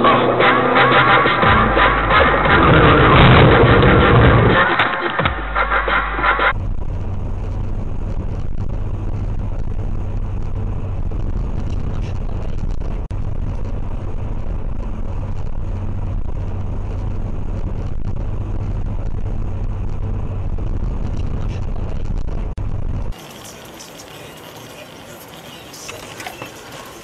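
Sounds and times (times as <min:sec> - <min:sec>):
car road and engine noise: 0:00.0 - 0:27.0
low hum: 0:00.0 - 0:27.0.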